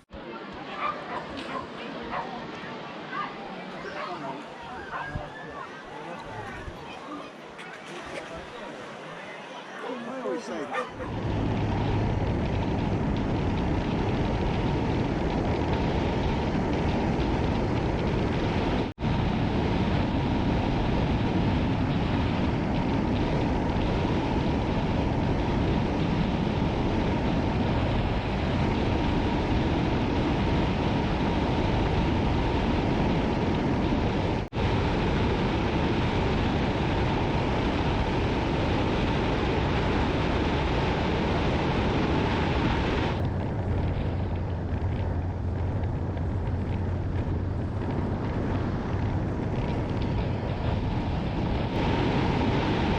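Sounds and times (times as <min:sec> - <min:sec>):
low steady engine hum: 0:00.0 - 0:52.9
road noise: 0:00.0 - 0:52.9
wind rushing over microphone: 0:00.0 - 0:52.9.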